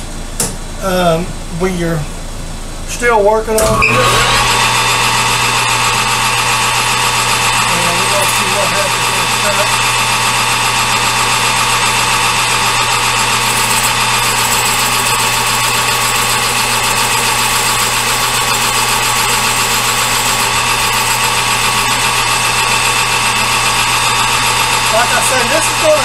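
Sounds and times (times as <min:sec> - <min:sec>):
metal lathe humming and whining: 0:03.8 - 0:26.0.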